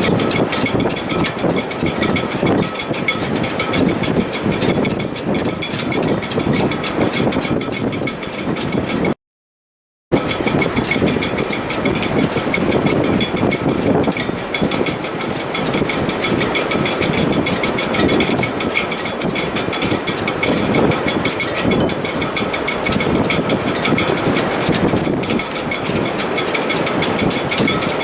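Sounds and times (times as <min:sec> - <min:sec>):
thin wind whistle: 0:00.0 - 0:08.8, 0:10.1 - 0:28.0
gale wind in rigging: 0:00.0 - 0:09.2, 0:10.1 - 0:28.0.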